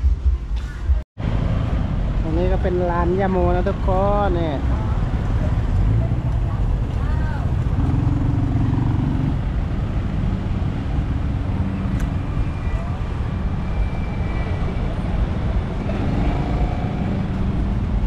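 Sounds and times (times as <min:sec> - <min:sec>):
cars passing: 0:01.2 - 0:18.0
motorcycles passing: 0:01.2 - 0:18.0.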